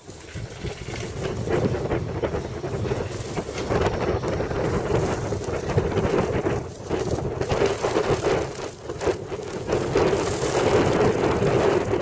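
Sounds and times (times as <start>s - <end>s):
passing road traffic: 0.0s - 12.0s
tram running on track: 0.0s - 12.0s
wind buffeting microphone: 0.0s - 12.0s.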